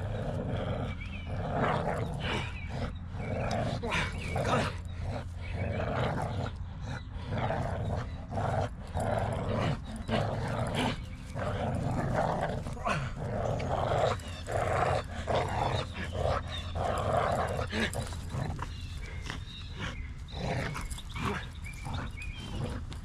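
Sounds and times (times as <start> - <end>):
dog growling: 0.0 - 23.0.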